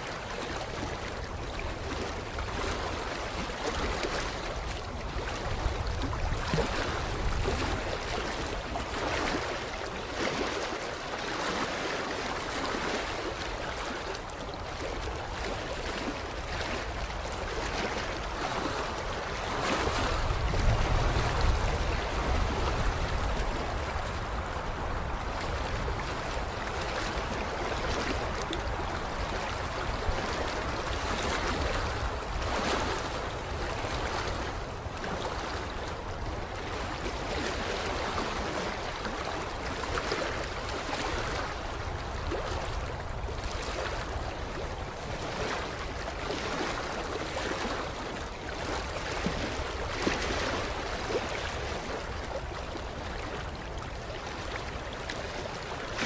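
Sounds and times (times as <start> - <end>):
water lapping against shoreline: 0.0 - 56.0
wind rumble on microphone: 0.0 - 56.0.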